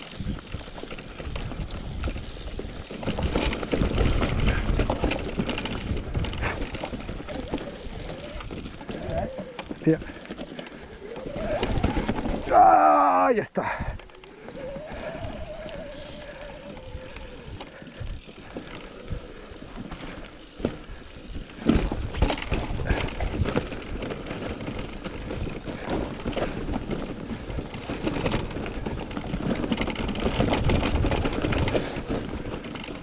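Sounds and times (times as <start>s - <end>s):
tyres rolling over rocks and gravel: 0.0s - 13.0s, 14.0s - 33.0s
bike frame rattling: 0.0s - 33.0s.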